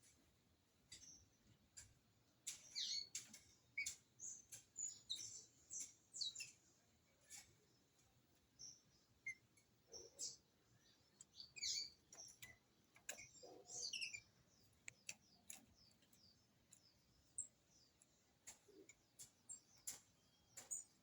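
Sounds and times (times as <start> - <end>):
bird chirping: 0.9 - 21.0.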